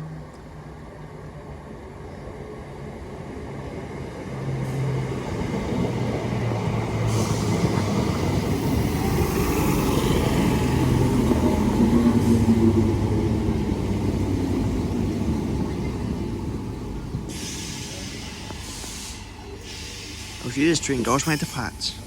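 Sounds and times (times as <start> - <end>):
electric train pulling in: 0.0 - 22.0.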